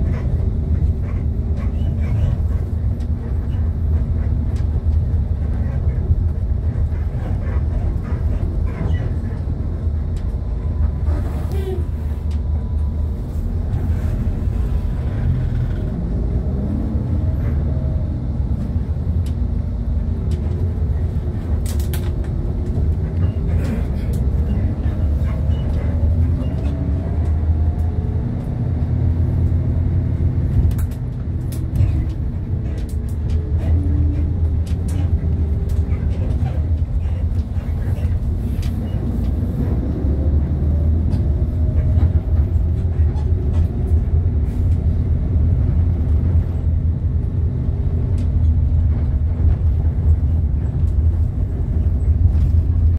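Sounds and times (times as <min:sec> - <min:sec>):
bus engine and road rumble: 0:00.0 - 0:52.9.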